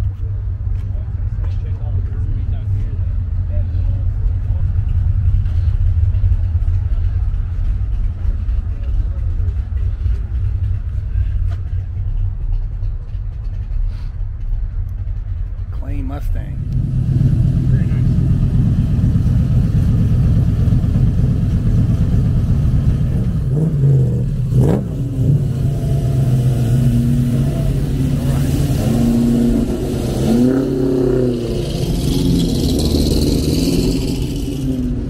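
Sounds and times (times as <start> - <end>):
car engine rumbling and revving: 0.0 - 35.0.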